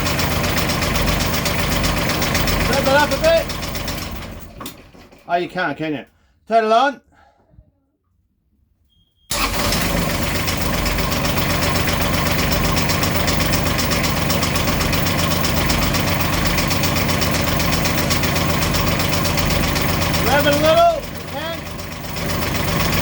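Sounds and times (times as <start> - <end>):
diesel engine idling: 0.0 - 4.9, 9.3 - 23.0
engine knock: 0.0 - 5.2, 9.3 - 23.0
diesel engine starting: 0.0 - 5.3, 9.3 - 23.0.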